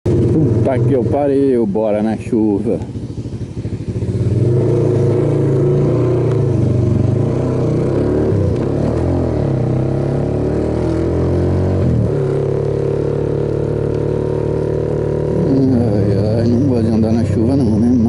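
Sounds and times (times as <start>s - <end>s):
motorcycle engine accelerating: 0.1s - 18.0s.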